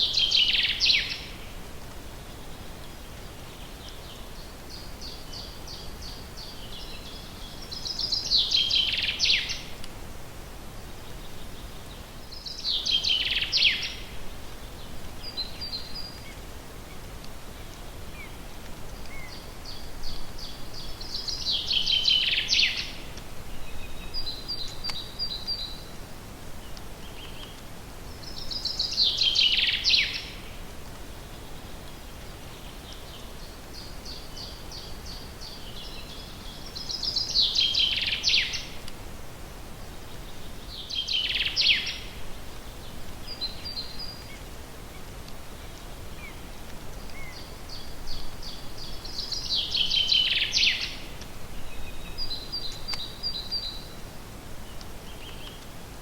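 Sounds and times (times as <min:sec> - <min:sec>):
faint background hiss: 0:00.0 - 0:56.0.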